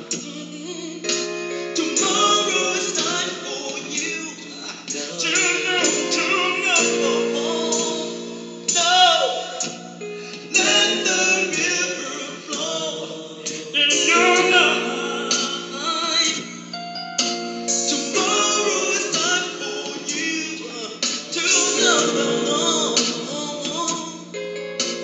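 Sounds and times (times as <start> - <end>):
man singing gospel: 0.0 - 16.6, 17.7 - 24.4
backing chords with voices: 0.0 - 25.0.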